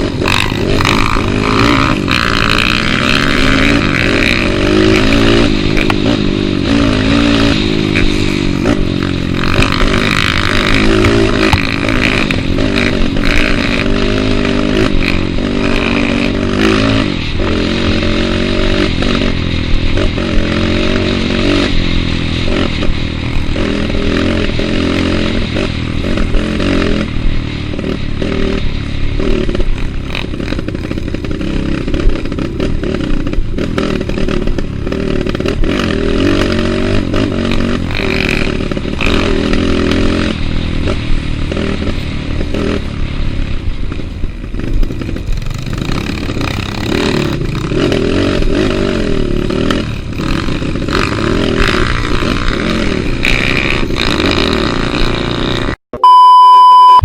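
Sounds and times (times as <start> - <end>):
motorcycle engine revving: 0.0 - 55.8
rattling over rough ground: 0.0 - 55.8.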